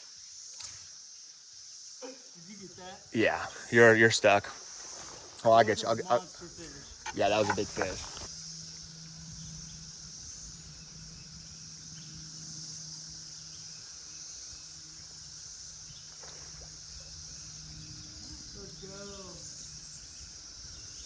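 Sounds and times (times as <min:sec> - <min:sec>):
cicadas droning: 0:00.0 - 0:21.0
faint low hum: 0:02.1 - 0:21.0.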